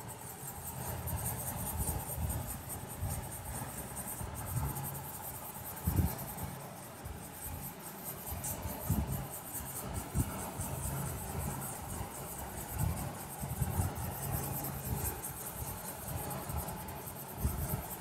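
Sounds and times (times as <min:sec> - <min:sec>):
low background rumble: 0:00.0 - 0:18.0.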